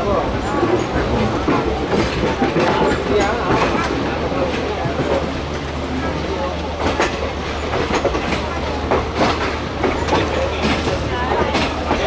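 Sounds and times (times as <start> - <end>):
train rolling low rumble: 0.0 - 12.0
train wheels clicking over rail joints: 0.0 - 12.0.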